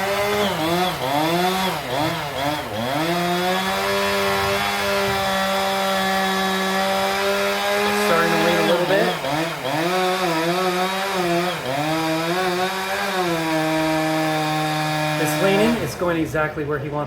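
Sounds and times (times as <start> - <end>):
chainsaw cutting tree trunk: 0.0 - 16.2.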